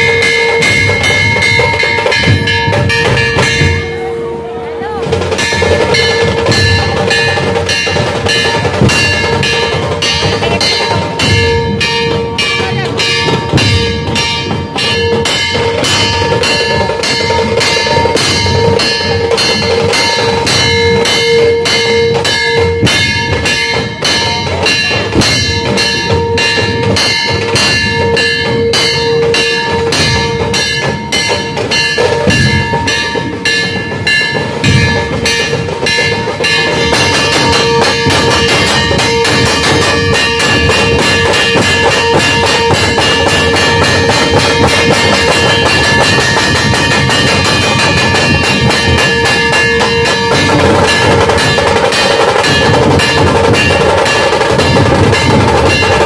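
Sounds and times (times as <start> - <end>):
fast drum beat: 0.0 - 56.0
ringing bell-like tones: 0.0 - 56.0.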